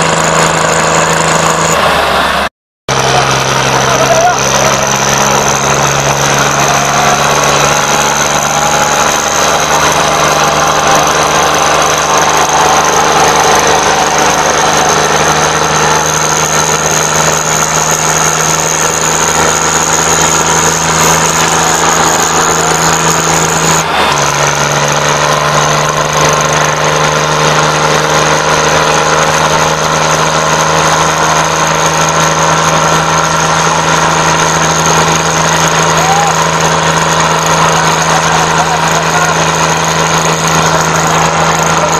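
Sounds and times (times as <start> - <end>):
tractor diesel engine straining: 0.0 - 41.9
tyres spinning in dirt: 0.0 - 41.9.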